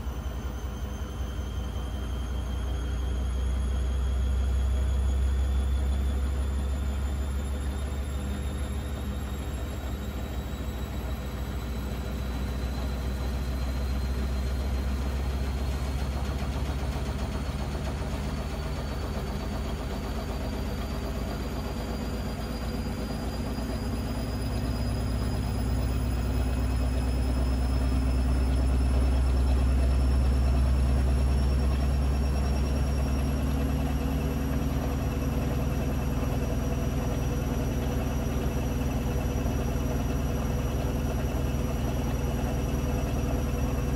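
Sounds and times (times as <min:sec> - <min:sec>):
low hum and rumble: 0:00.0 - 0:43.9
washing machine motor whine: 0:00.0 - 0:43.9.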